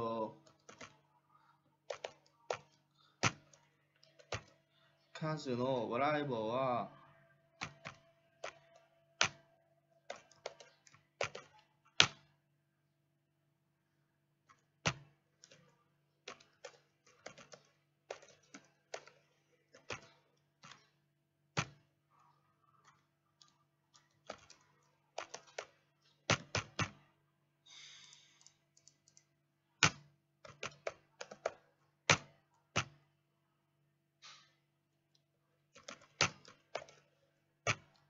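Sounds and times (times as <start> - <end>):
typing on computer keyboard: 0.0 - 5.4, 7.4 - 12.4, 14.4 - 27.1, 28.0 - 33.1, 35.1 - 38.0.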